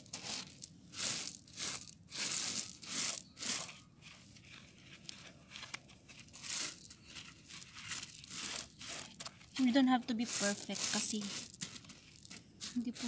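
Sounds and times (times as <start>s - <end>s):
gravel crunching and scraping: 0.0s - 13.0s.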